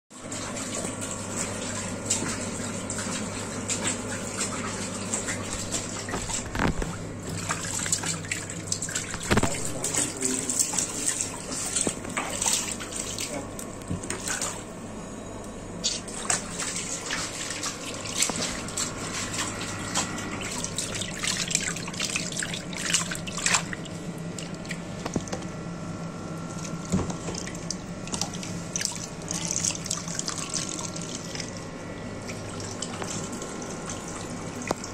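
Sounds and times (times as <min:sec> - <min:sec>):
steady hum: 0:00.1 - 0:34.9
water splashing in plastic tub: 0:00.2 - 0:14.7, 0:15.9 - 0:25.5, 0:26.5 - 0:34.9.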